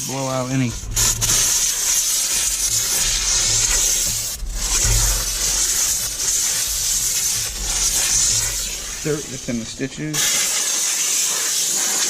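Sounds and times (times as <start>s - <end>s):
steam jet hissing: 0.0s - 12.0s.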